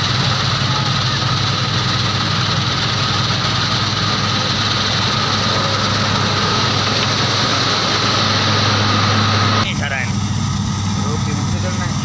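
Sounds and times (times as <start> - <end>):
combine harvester engine drone: 0.0 - 12.0
high whine: 0.0 - 12.0.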